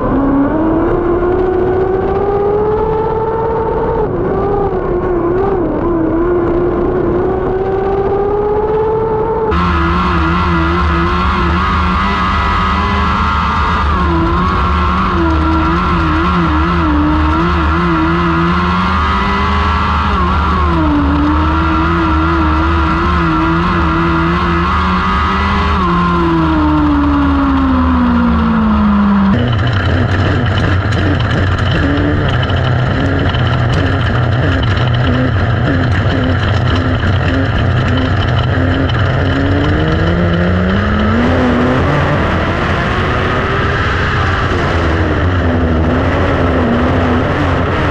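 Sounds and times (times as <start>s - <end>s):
racing car engines revving: 0.0s - 47.9s
rough wind-like noise: 0.0s - 47.9s.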